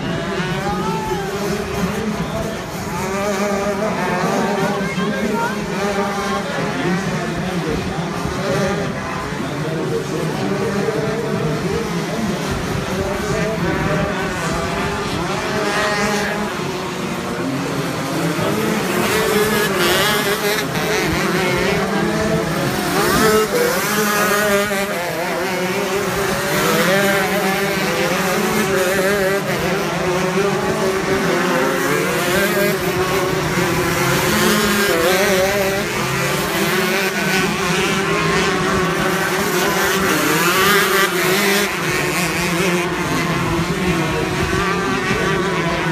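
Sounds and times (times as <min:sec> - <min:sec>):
kart engines racing: 0:00.0 - 0:45.9.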